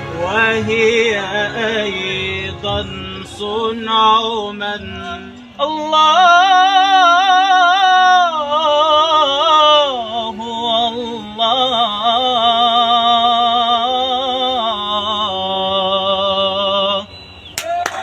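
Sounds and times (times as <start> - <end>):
man singing devotional song: 0.0 - 17.1.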